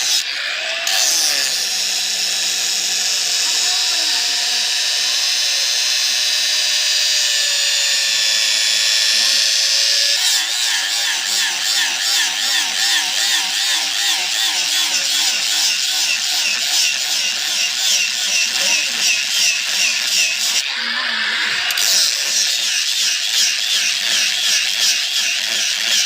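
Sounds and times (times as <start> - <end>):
power tool motor whining: 0.0 - 26.0.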